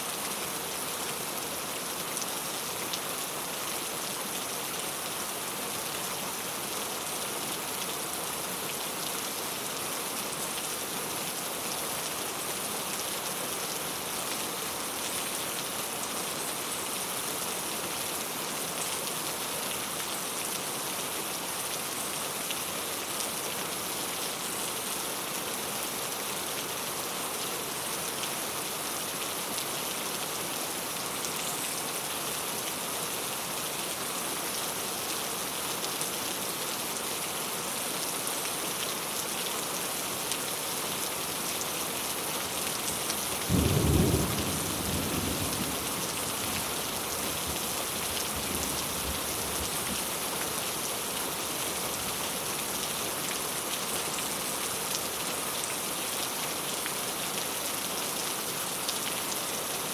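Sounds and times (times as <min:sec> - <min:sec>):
rain on a tile roof: 0:00.0 - 0:59.9.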